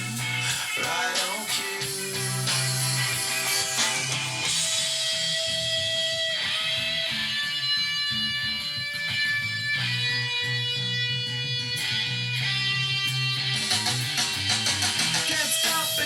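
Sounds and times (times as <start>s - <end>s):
pop-rock guitar music: 0.0s - 16.0s.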